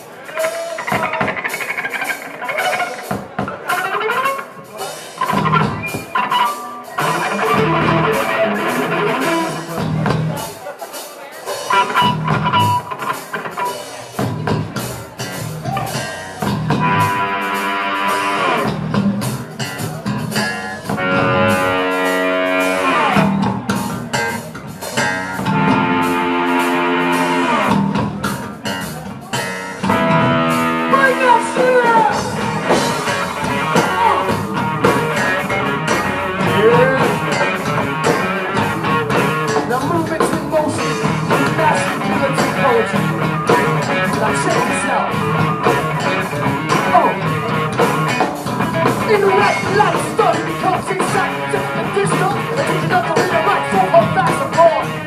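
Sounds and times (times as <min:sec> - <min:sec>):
drum kit: 0:00.0 - 0:55.0
electric guitar lead: 0:00.0 - 0:55.0.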